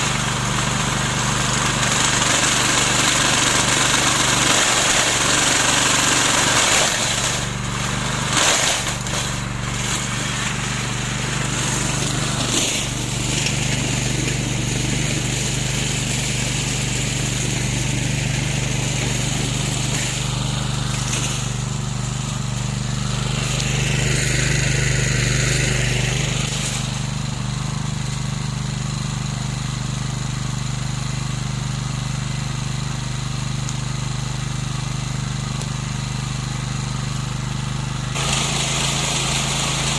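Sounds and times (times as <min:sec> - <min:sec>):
lawn mower drone: 0:00.0 - 0:39.9.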